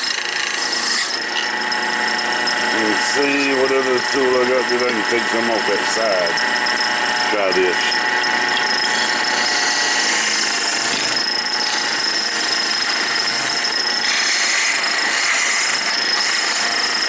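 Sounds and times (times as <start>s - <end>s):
turning tool scraping wood: 0.0s - 17.0s
wood lathe whining: 0.0s - 17.0s.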